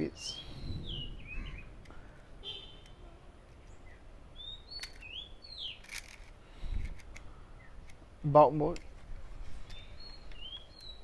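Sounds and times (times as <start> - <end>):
small birds chirping: 0.0 - 8.8, 9.4 - 11.0.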